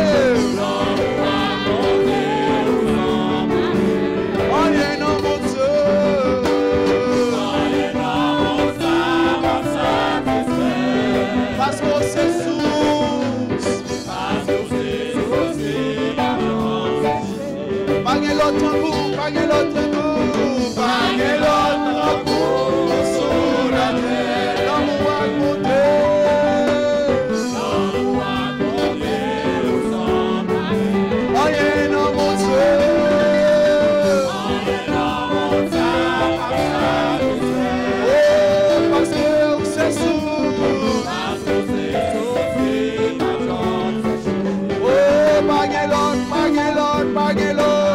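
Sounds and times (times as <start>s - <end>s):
electric bass guitar: 0.0s - 47.9s.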